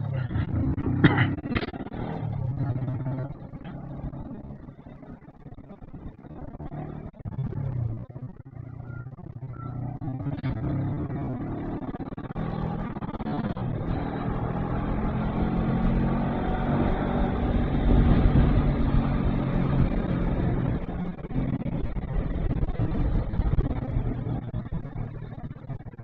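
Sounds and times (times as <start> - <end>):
motorcycle engine running: 0.0 - 26.0
wind rumble: 0.0 - 26.0.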